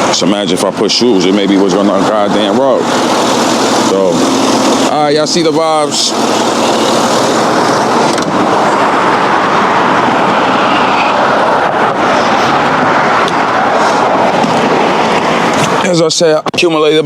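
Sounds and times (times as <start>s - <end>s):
vehicle rushing roar: 0.0s - 16.4s.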